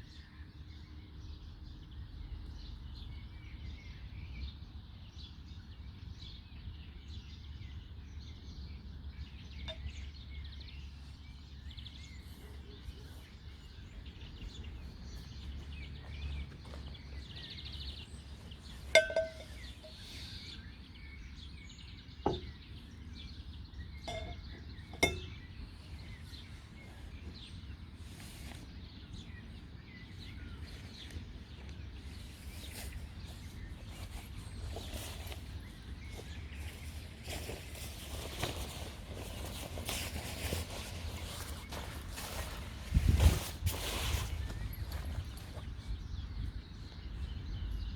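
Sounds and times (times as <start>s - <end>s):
faint birdsong: 0.0s - 47.9s.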